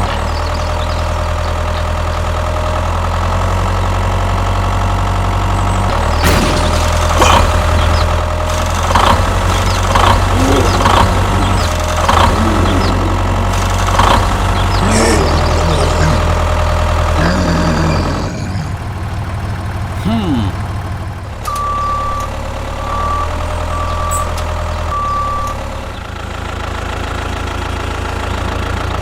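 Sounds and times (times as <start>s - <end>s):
tractor engine running: 0.1s - 29.0s.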